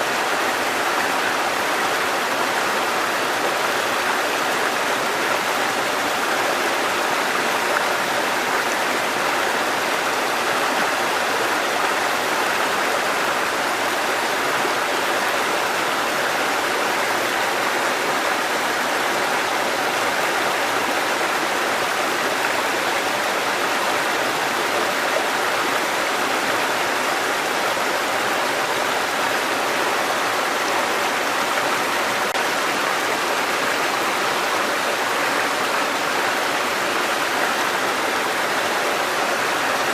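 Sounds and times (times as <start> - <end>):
stream water cascading over rocks: 0.0 - 39.9.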